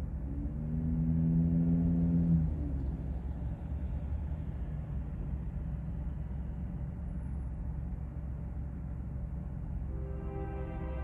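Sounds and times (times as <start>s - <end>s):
distant vehicle engines rumbling: 0.0s - 11.0s.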